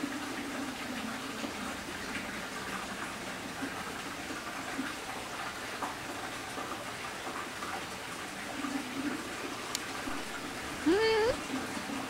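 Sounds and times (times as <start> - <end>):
water running into rock bath: 0.0 - 12.0.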